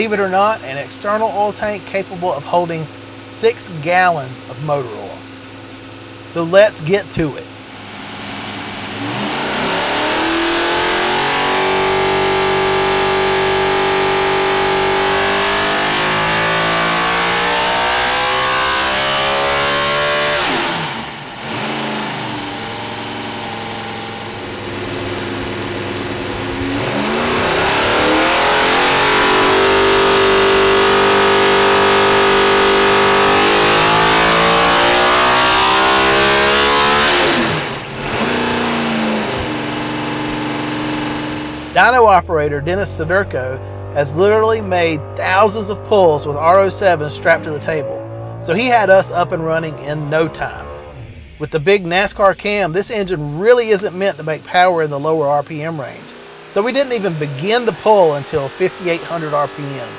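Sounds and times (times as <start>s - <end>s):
racing engine revving on dyno: 2.8s - 59.9s.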